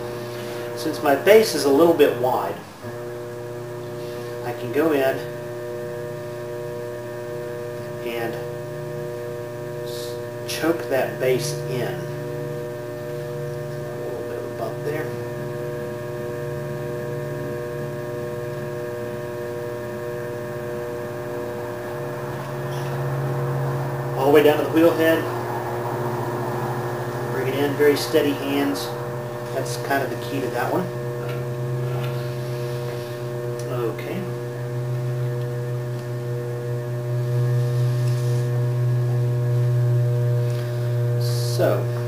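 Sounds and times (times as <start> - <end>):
potter's wheel motor hum: 0.0 - 42.0.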